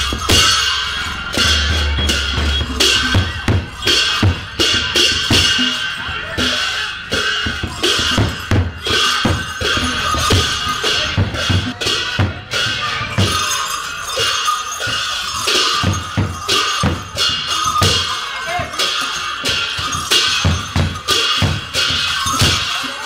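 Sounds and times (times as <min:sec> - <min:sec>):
drums beating: 0:00.0 - 0:23.0
ringing cymbals: 0:00.0 - 0:23.0.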